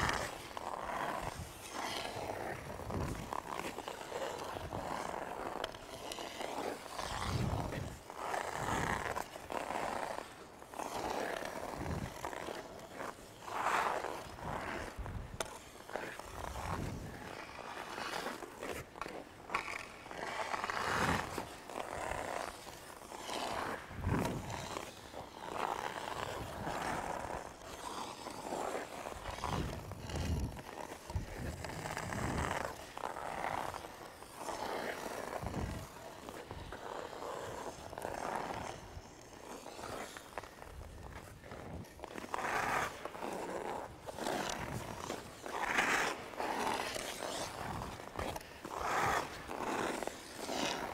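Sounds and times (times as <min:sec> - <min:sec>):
skate blades scraping on ice: 0:00.0 - 0:50.9.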